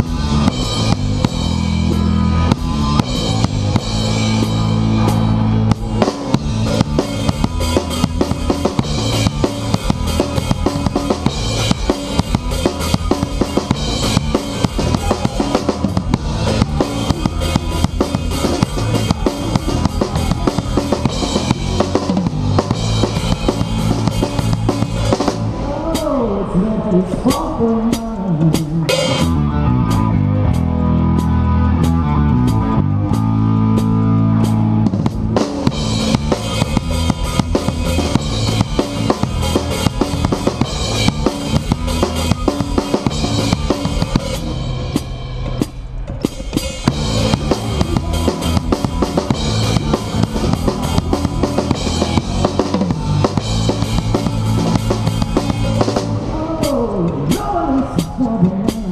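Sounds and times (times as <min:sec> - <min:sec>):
drum kit: 0:00.0 - 0:58.9
rock band playing: 0:00.0 - 0:58.9.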